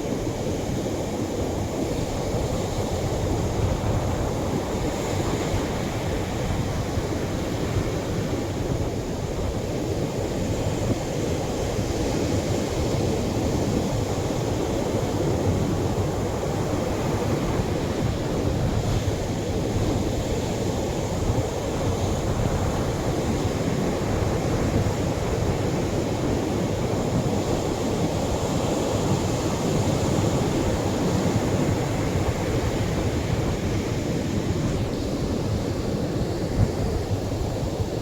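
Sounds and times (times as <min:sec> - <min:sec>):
surf breaking on a beach: 0:00.1 - 0:38.0.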